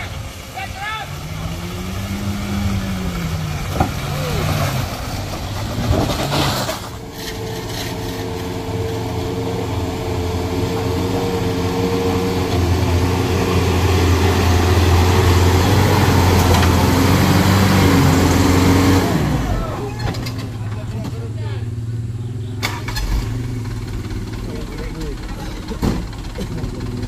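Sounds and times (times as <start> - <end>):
heavy vehicle engine humming: 0.0 - 27.0.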